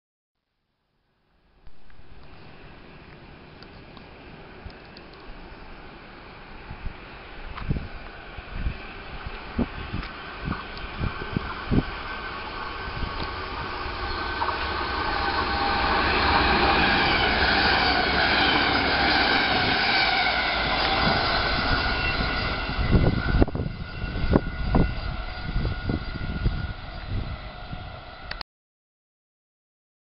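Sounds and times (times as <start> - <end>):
train passing at speed: 1.4 - 28.4.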